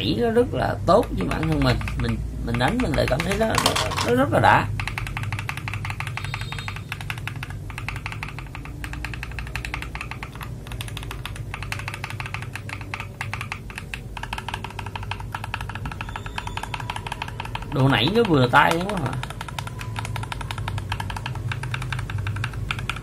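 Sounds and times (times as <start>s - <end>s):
fast typing on mechanical keyboard: 0.8s - 23.0s.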